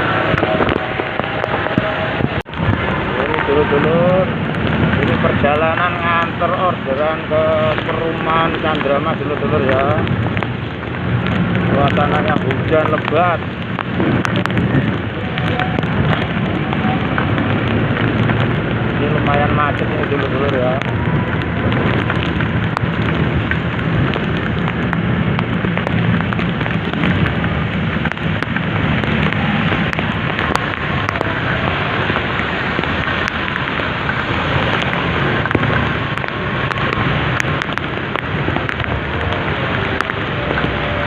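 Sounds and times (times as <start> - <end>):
heavy rain: 0.0 - 41.0
raindrops ticking near microphone: 0.0 - 41.0
steady low rumble: 0.0 - 41.0.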